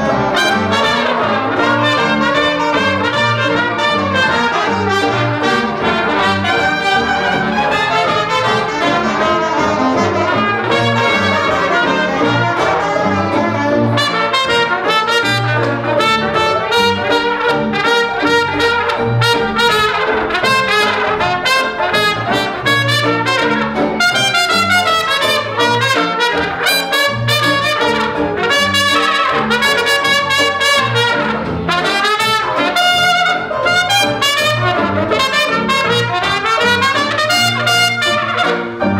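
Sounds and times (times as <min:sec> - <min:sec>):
banjo: 0:00.0 - 0:38.9
piano: 0:00.0 - 0:38.9
string bass: 0:00.0 - 0:38.9.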